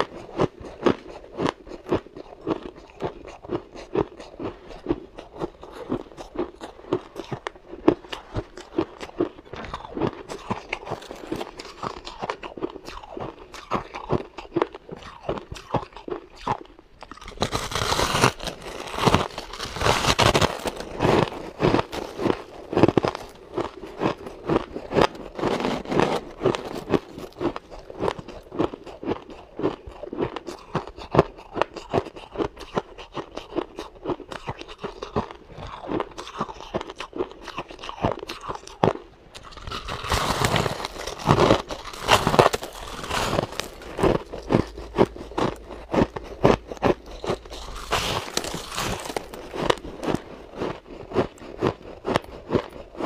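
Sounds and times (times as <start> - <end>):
person chewing shaved ice: 0.0 - 53.0.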